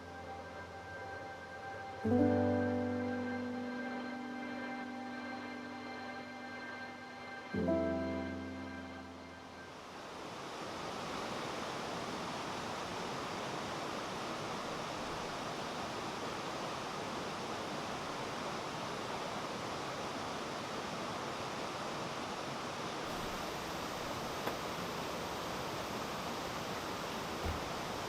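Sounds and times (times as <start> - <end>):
stream flowing: 0.0 - 28.0.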